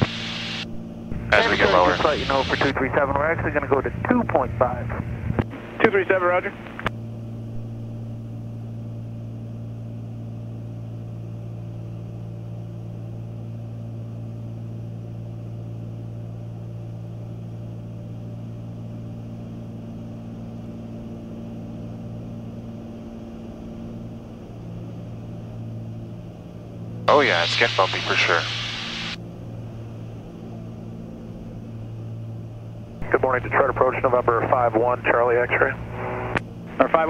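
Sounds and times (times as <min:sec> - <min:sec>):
aircraft cabin engine drone: 0:00.0 - 0:37.0.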